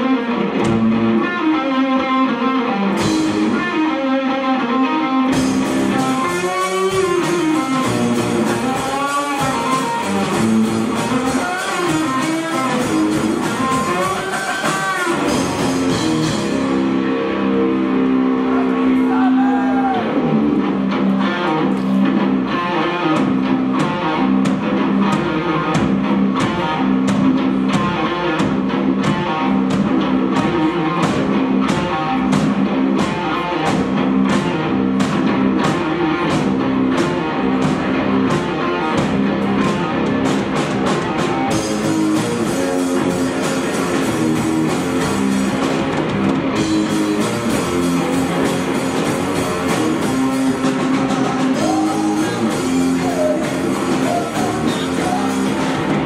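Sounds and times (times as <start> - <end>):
distorted guitar riff: 0.0 - 56.0
drum kit beat: 2.9 - 3.9, 5.3 - 17.9, 18.5 - 56.0.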